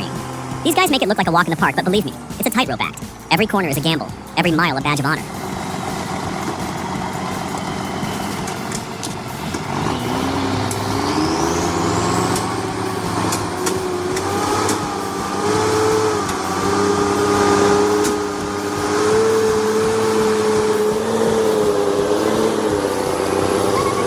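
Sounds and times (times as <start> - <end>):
truck diesel engine under load: 0.0 - 24.0.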